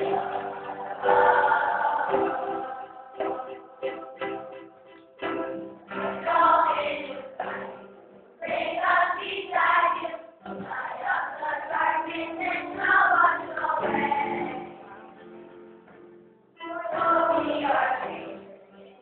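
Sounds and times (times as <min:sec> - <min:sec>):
children singing: 0:00.0 - 0:15.2, 0:16.6 - 0:18.9
musical accompaniment: 0:00.0 - 0:19.0.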